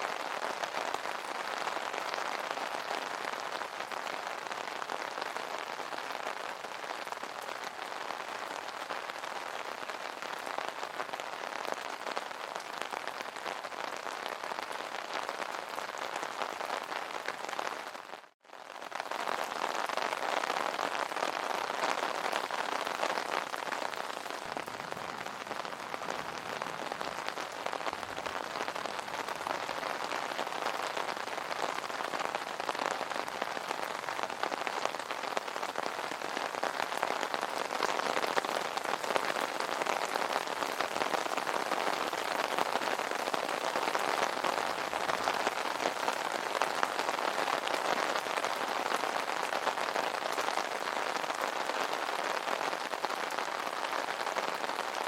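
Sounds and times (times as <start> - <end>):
rain on an umbrella: 0.0 - 55.0.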